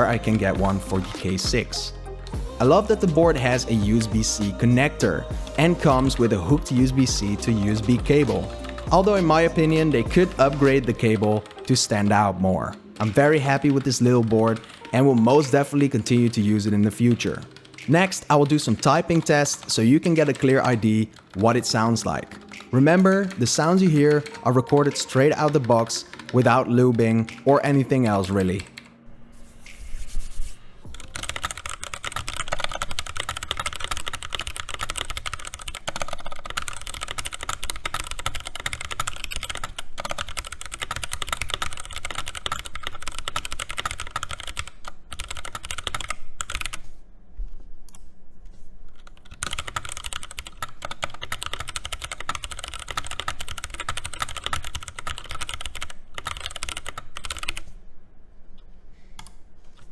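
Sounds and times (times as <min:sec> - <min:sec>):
fast mechanical keyboard typing: 0:00.0 - 0:01.9, 0:02.6 - 0:29.0, 0:30.9 - 0:46.9, 0:49.0 - 0:57.8.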